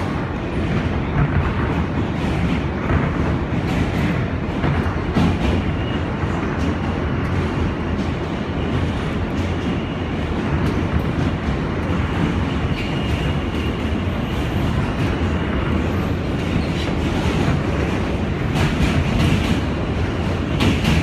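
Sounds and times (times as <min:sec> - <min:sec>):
passing train wheel clacks: 0:00.0 - 0:21.0
subway wheels rumbling on rail: 0:00.0 - 0:21.0.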